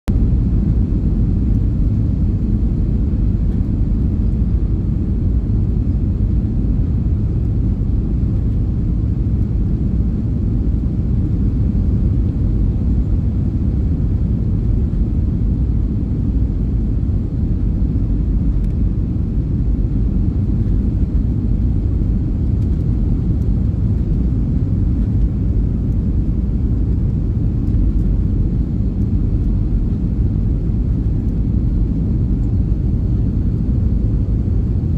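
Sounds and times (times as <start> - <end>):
airplane engines rumbling: 0.1 - 34.9.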